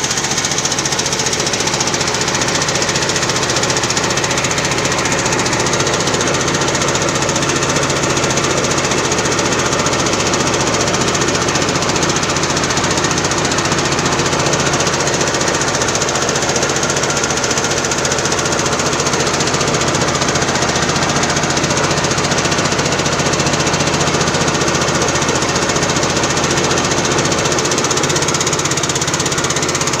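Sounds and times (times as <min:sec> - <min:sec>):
small engine chugging: 0:00.0 - 0:30.0.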